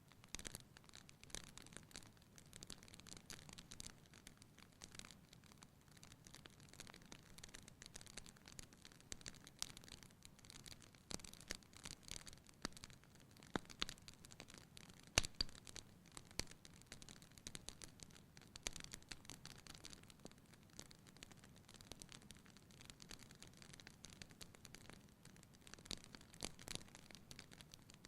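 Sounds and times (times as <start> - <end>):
wood fire crackling: 0.1 - 28.0.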